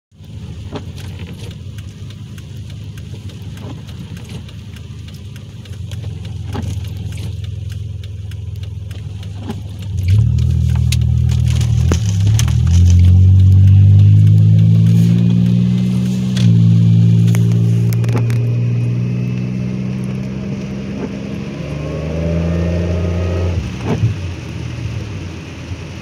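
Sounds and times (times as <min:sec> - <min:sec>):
light ticks: 0:00.1 - 0:21.8
car engine drone: 0:00.1 - 0:26.0.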